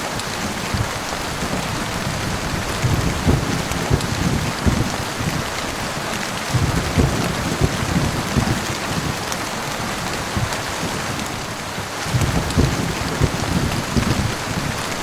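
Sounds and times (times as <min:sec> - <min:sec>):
heavy rain falling: 0:00.0 - 0:15.0
low thunder rumbles: 0:00.0 - 0:15.0.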